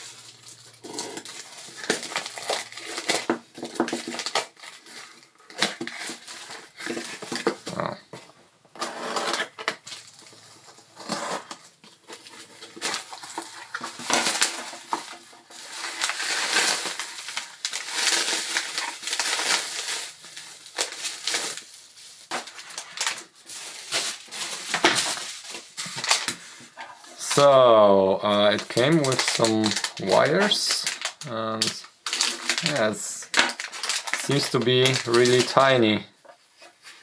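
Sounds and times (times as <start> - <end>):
plastic packaging crinkling: 0.0 - 8.1, 8.8 - 37.0.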